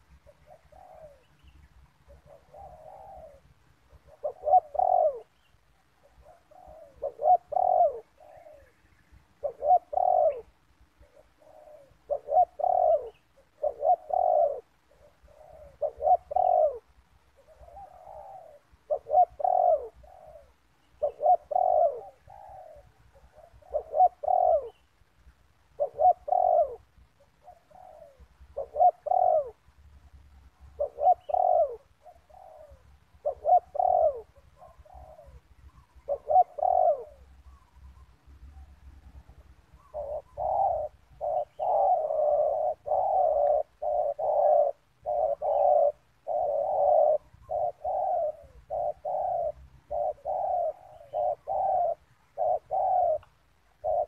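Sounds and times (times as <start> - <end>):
dove cooing: 0.0 - 25.0, 25.6 - 29.8, 30.4 - 54.0
faint dove coos: 0.0 - 25.0, 25.6 - 54.0.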